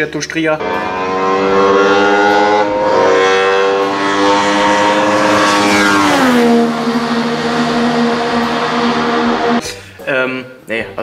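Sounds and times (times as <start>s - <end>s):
aircraft engine passing by: 0.6s - 9.6s.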